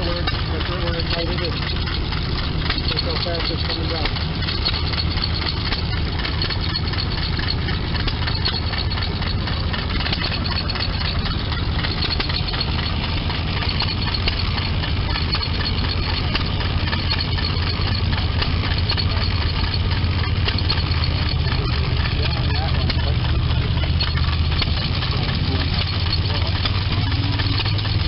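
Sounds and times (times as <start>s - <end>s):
engine running: 0.0s - 28.0s
knitting machine clattering: 0.0s - 28.0s.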